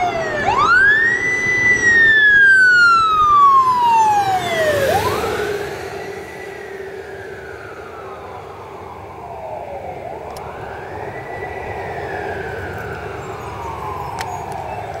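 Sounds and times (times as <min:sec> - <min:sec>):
fire truck siren wailing: 0:00.0 - 0:15.0
traffic rumble: 0:00.0 - 0:15.0.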